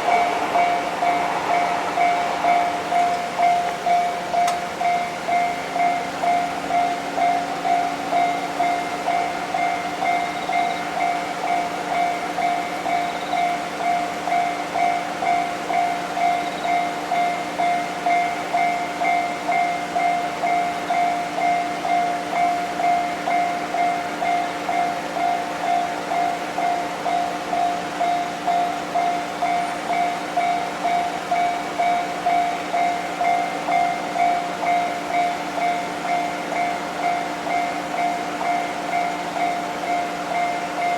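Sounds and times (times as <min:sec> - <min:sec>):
railroad crossing warning bell: 0:00.0 - 0:40.9.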